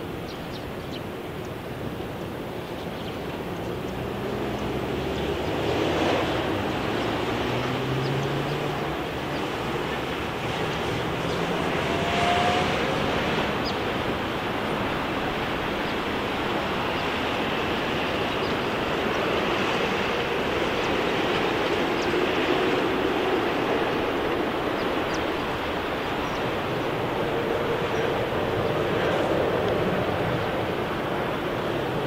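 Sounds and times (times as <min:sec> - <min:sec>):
distant jet engines roaring: 0:00.0 - 0:32.0.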